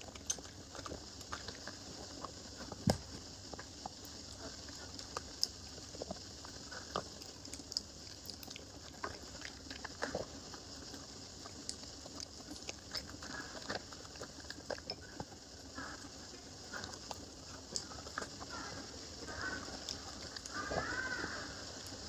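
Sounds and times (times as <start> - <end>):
animal chewing: 0.0 - 22.0
steady hiss: 0.0 - 22.0.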